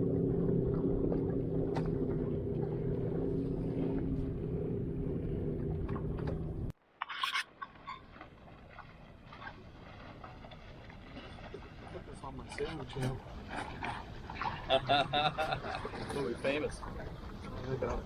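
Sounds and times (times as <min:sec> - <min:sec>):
boat engine humming: 0:00.0 - 0:06.8, 0:08.0 - 0:18.0.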